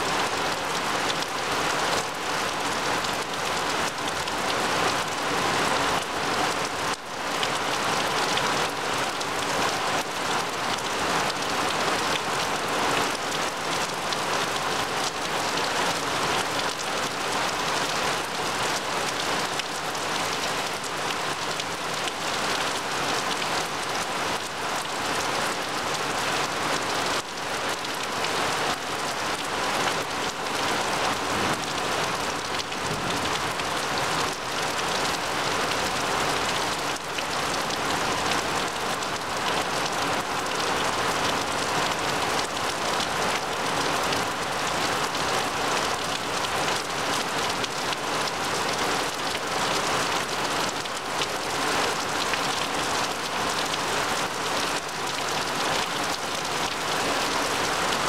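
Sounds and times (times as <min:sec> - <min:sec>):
heavy rain on leaves: 0:00.0 - 0:58.0.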